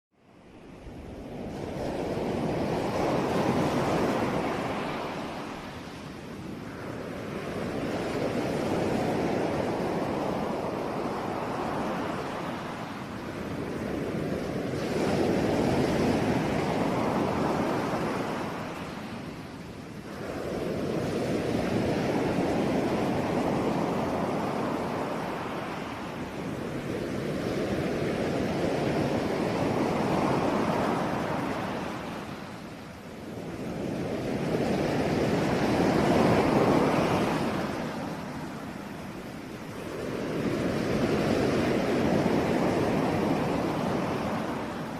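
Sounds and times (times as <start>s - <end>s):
ocean waves washing on shore: 0.2s - 44.9s.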